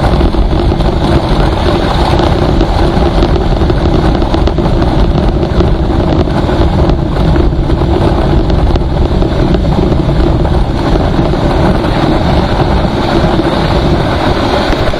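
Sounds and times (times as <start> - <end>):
road noise: 0.0 - 14.9
vehicle engine drone: 0.0 - 14.9
wind buffeting on microphone: 0.0 - 14.9.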